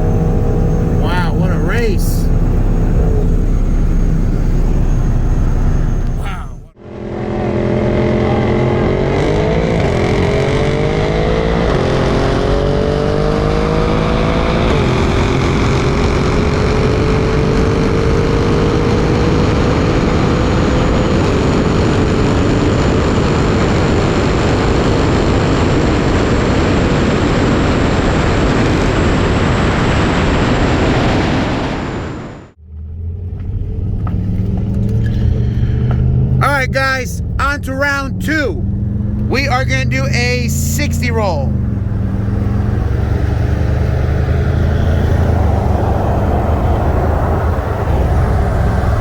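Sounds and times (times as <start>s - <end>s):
car engine at full throttle: 0.0s - 28.1s, 32.6s - 49.0s.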